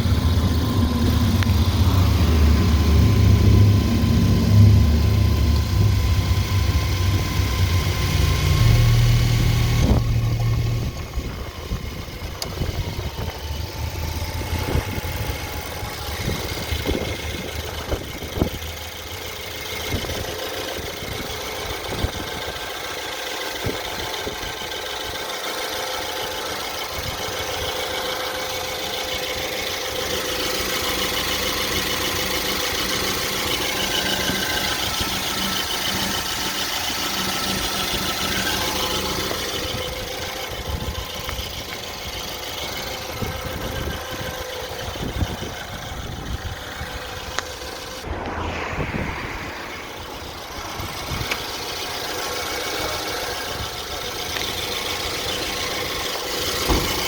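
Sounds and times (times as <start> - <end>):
engine knocks: 0.0 - 48.1, 50.2 - 57.0
car engine running: 0.0 - 57.0.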